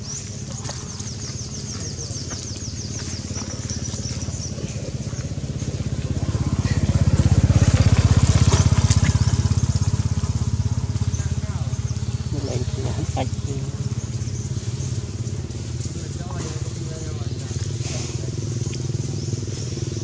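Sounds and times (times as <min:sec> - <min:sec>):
motorbike engine passing: 0:00.5 - 0:20.0.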